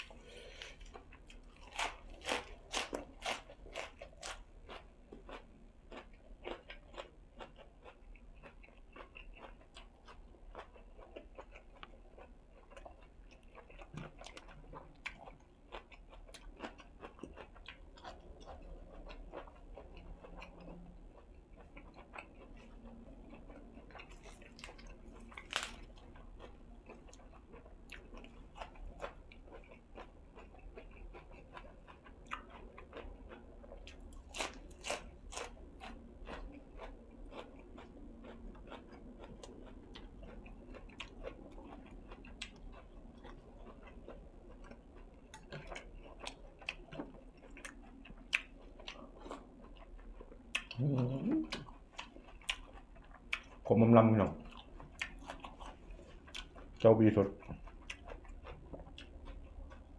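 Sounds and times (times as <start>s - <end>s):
close chewing and crunching: 0.0s - 59.9s.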